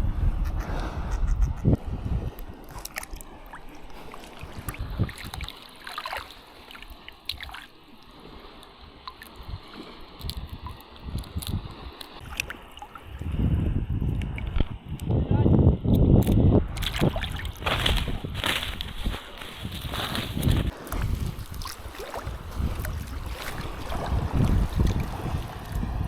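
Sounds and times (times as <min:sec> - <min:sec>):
water sloshing and gurgling: 0:00.0 - 0:15.2, 0:15.8 - 0:26.0.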